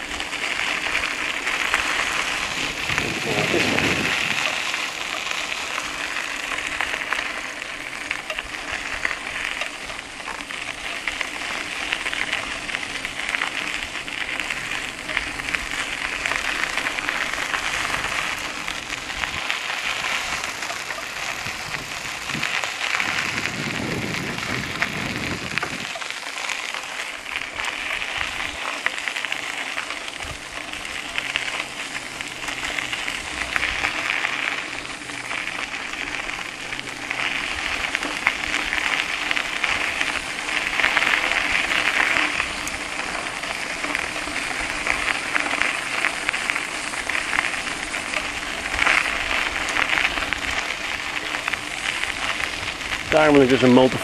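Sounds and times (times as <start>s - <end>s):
bicycle tyres crunching on gravel: 0.0s - 54.0s.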